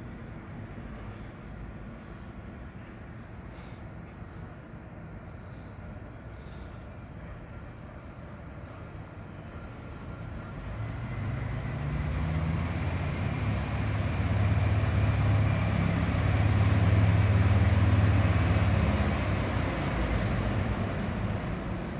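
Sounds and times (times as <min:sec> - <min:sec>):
train engine drone: 0:00.0 - 0:21.9
train wheel and rail noise: 0:00.0 - 0:21.9.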